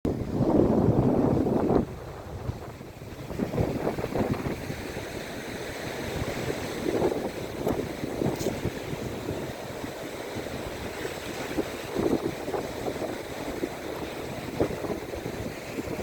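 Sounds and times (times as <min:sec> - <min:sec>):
sea waves washing onto beach: 0:00.1 - 0:16.0
wind rumbling on microphone: 0:00.1 - 0:16.0.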